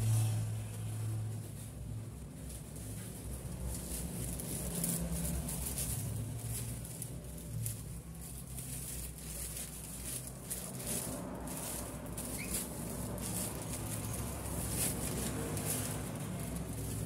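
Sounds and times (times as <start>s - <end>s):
paper rustling and sliding over cloth: 0.6s - 17.0s.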